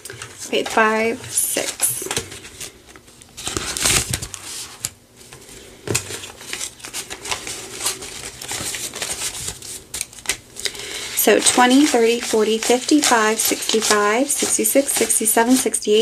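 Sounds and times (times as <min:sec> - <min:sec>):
banknotes rustling: 0:00.1 - 0:16.0.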